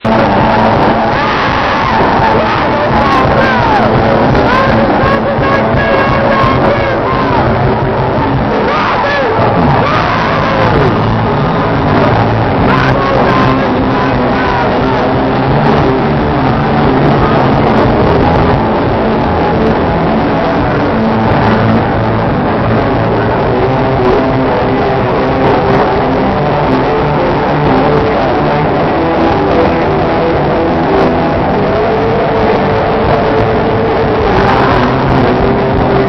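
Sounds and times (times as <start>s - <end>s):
loud live band with guitar: 0.0s - 36.0s.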